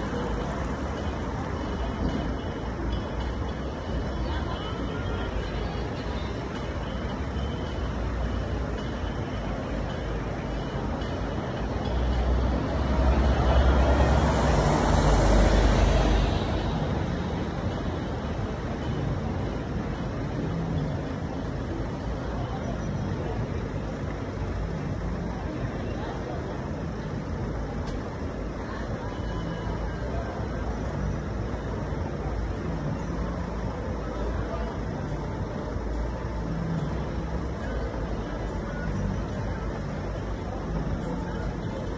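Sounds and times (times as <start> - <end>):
bus driving past: 0.0 - 41.9
street traffic: 0.0 - 41.9.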